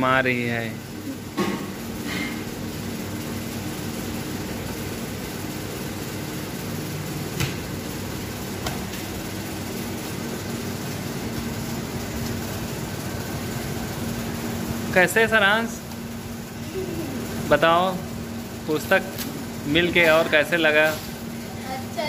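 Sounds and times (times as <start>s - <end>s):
room fan humming: 0.0s - 22.0s.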